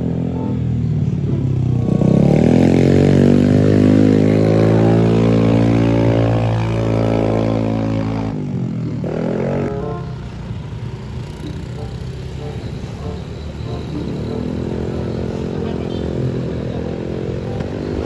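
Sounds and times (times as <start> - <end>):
vehicle engine working hard: 0.0 - 18.0.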